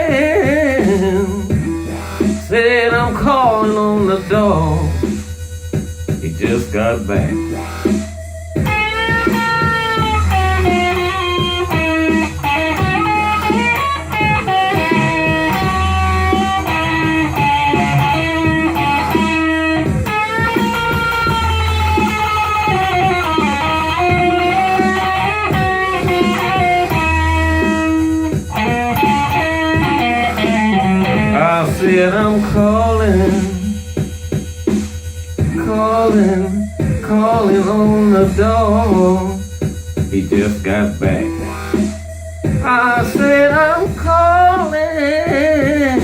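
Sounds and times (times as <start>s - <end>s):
electric guitar lead with bent notes: 0.0s - 46.0s
steady low bass: 0.0s - 46.0s.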